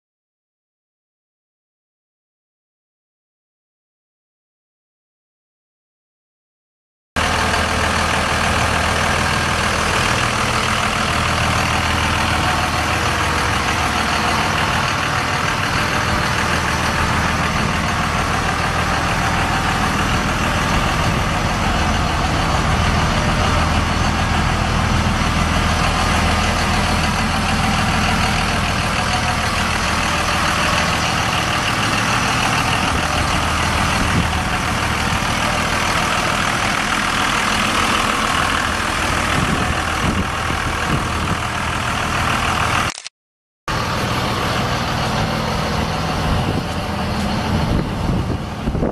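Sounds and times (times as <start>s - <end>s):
diesel engine idling: 7.2s - 43.1s, 43.7s - 48.9s.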